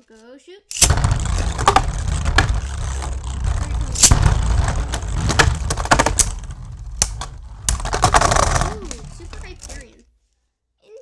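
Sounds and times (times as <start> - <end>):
spinning tops clacking together: 0.7 - 9.9
spinning tops whirring: 0.7 - 9.9.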